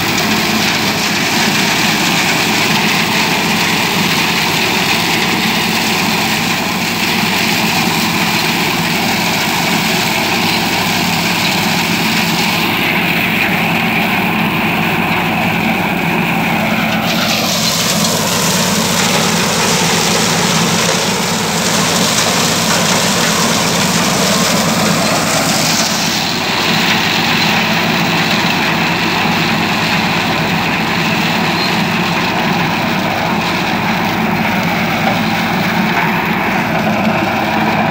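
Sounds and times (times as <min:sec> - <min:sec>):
seeder rotor through straw: 0:00.0 - 0:37.9
tractor engine running: 0:00.0 - 0:37.9.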